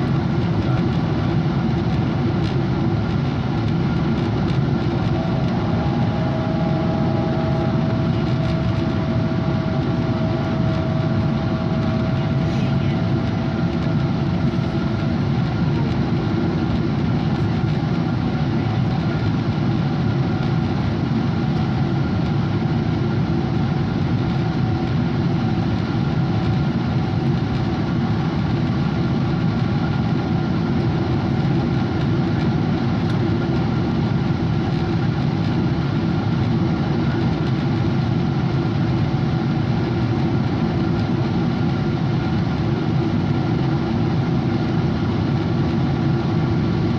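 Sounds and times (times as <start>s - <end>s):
faint steady whine: 0.0s - 46.9s
jet engines running: 0.0s - 46.9s.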